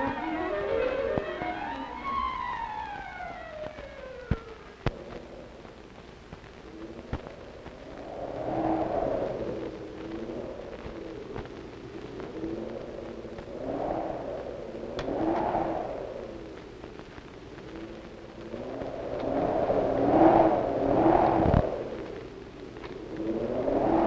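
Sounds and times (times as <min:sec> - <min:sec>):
faint low tones: 0:00.0 - 0:24.0
whooshing rumbling swells: 0:01.6 - 0:24.0.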